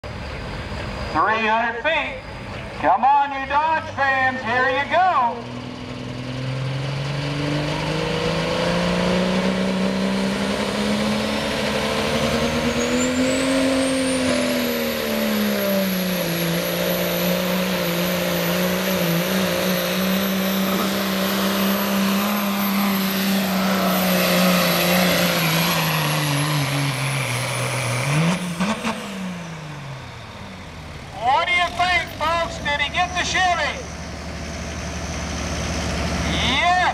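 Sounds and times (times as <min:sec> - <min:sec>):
pickup truck engine at full throttle: 0:00.0 - 0:36.9.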